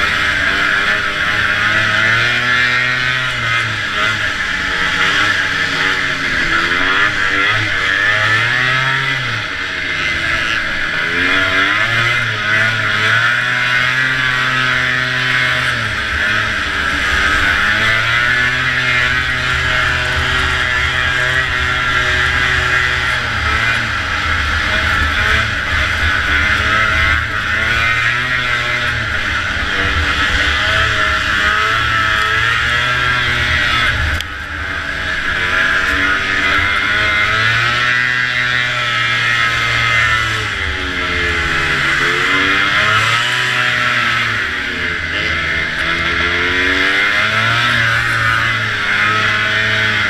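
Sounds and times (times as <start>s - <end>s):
snowmobile two-stroke engine revving: 0.0s - 50.0s.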